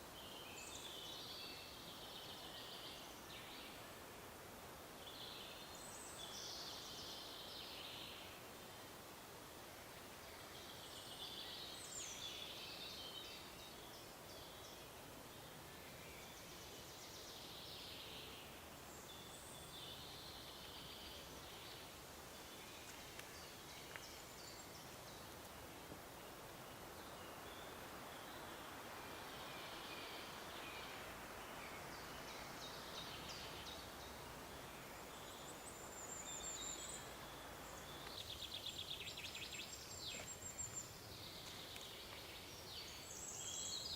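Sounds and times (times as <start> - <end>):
songbirds singing: 0.0 - 4.1, 4.8 - 9.0, 10.2 - 43.9
steady soft hiss: 0.0 - 43.9.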